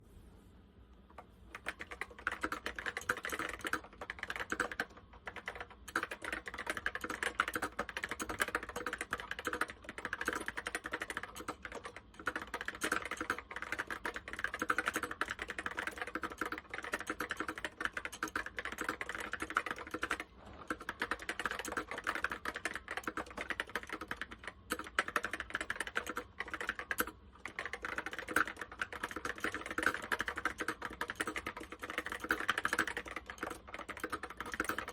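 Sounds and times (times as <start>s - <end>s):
fast typing on keyboard: 1.5s - 34.9s.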